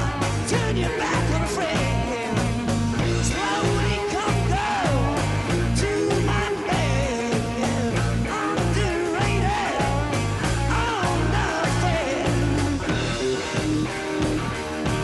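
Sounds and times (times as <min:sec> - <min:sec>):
bass guitar: 0:00.0 - 0:15.0
electric guitar: 0:00.0 - 0:15.0
rock drums: 0:00.0 - 0:15.0.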